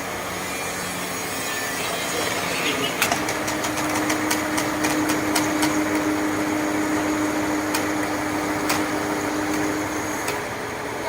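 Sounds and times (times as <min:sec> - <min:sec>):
log saw running: 0:00.0 - 0:10.8.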